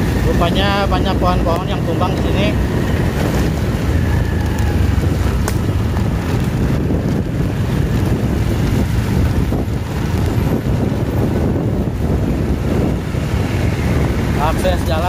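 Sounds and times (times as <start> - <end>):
heavy rain: 0.0 - 15.0
strong wind buffeting microphone: 0.0 - 15.0.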